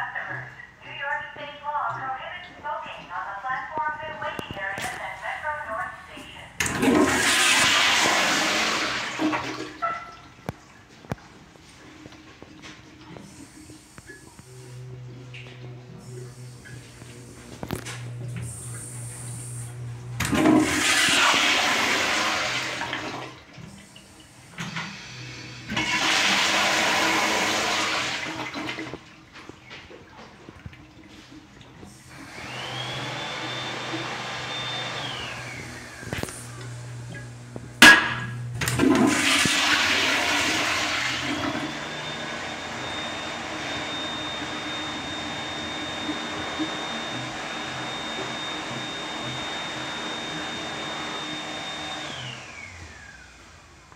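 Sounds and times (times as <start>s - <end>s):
water running: 0.0s - 53.2s
toilet flushing: 6.5s - 53.9s.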